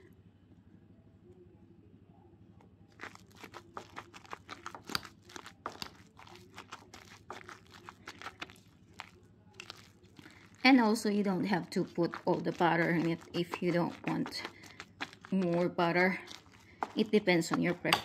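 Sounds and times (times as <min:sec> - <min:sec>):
potato masher squishing potatoes: 0:03.0 - 0:18.0.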